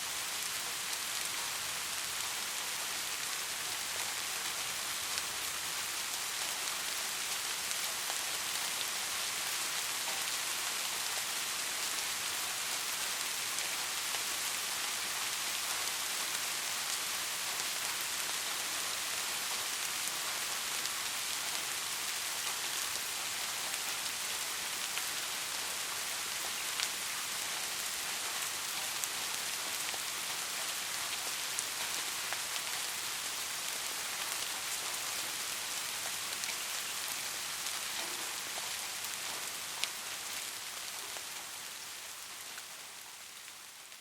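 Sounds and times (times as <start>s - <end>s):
steady rain hiss: 0.0s - 44.0s.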